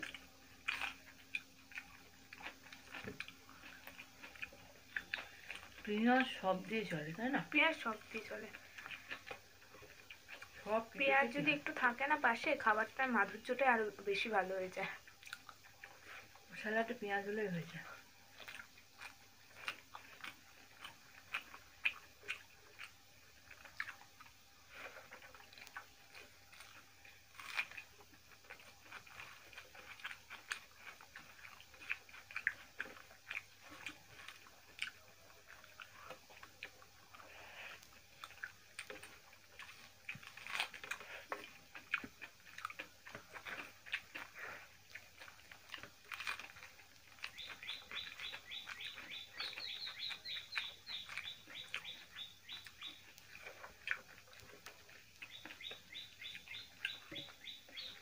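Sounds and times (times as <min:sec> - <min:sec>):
people chewing and smacking: 0:00.0 - 0:58.0.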